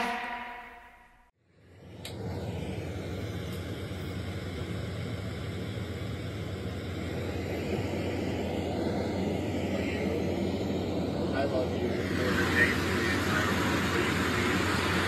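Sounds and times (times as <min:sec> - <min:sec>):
jet cabin engine drone: 0:01.4 - 0:15.0.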